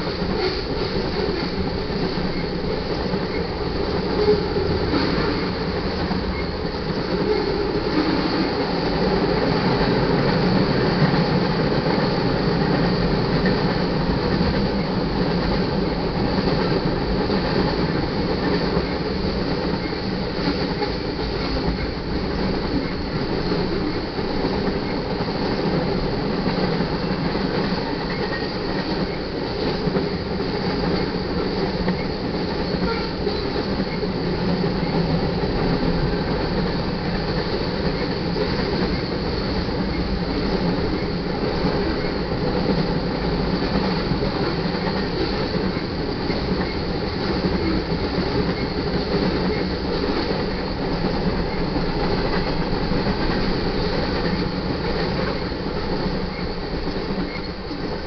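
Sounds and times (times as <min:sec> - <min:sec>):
steel wheels on rail: 0:00.0 - 0:58.0.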